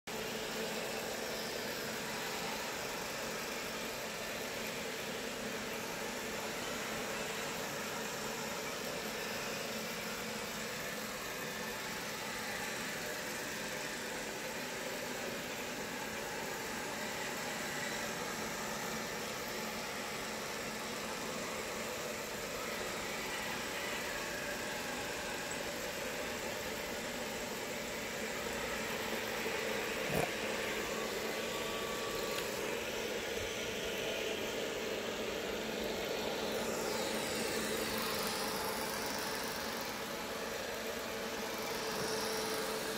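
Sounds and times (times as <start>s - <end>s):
robot vacuum whirring: 0.2s - 42.9s.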